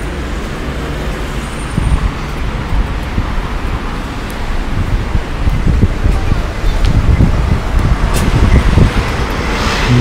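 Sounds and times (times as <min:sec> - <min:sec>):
passing cars: 0:00.0 - 0:10.0.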